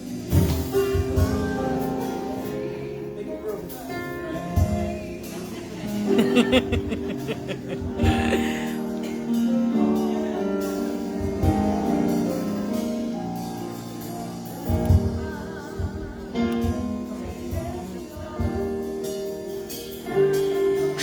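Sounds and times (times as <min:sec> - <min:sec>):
gospel singing over instruments: 0:00.0 - 0:21.0.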